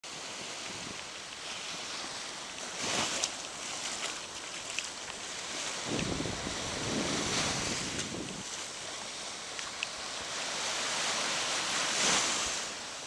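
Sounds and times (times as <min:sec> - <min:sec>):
wind rumbling on microphone: 0:00.1 - 0:12.8
surf washing onto beach: 0:00.1 - 0:13.0.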